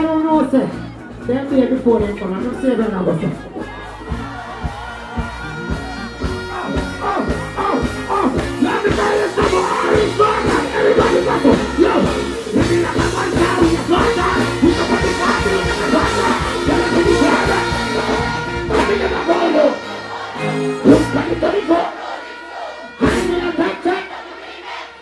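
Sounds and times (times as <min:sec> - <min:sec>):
vocalist on microphone: 0:00.0 - 0:24.4
dancehall beat over a pa: 0:00.0 - 0:25.0.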